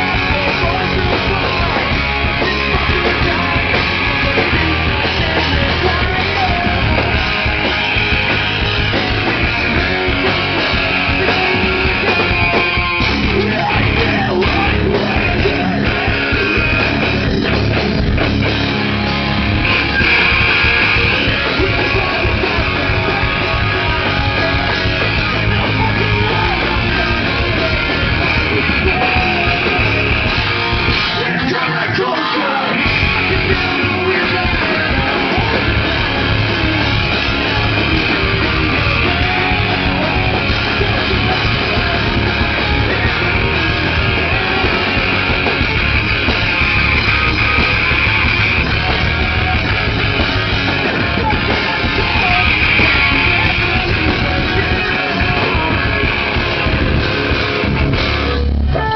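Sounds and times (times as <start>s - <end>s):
bass guitar: 0.0s - 58.9s
drums: 0.0s - 58.9s
electric guitar: 0.0s - 58.9s.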